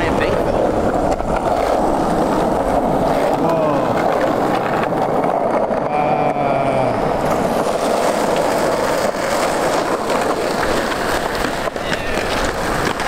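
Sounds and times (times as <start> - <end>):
skateboard wheels rolling on concrete: 0.0 - 13.0.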